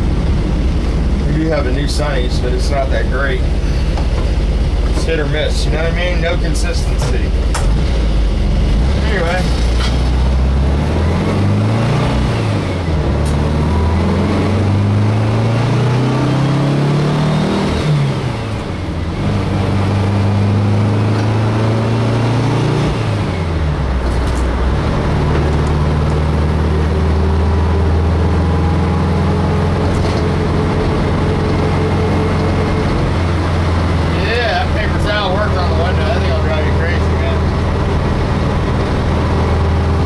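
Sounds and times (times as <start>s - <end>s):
faint transmission whine: 0.0s - 17.0s, 17.6s - 40.0s
engine accelerating through gears: 0.0s - 40.0s.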